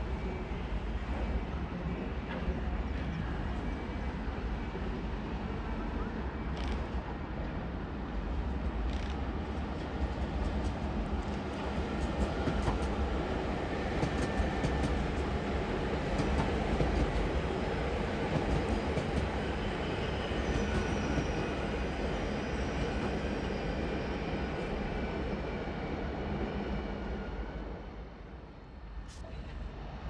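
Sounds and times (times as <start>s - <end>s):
train rumbling on tracks: 0.0s - 30.0s.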